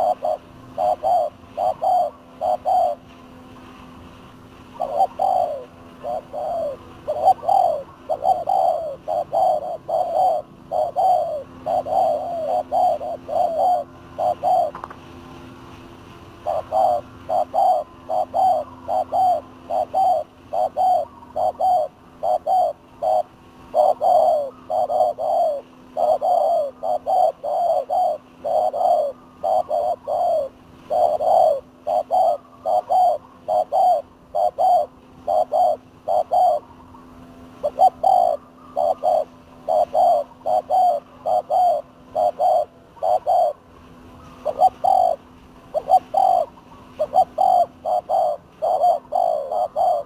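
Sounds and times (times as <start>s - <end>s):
doves cooing: 0.0s - 50.0s
faint low hum: 0.0s - 50.0s.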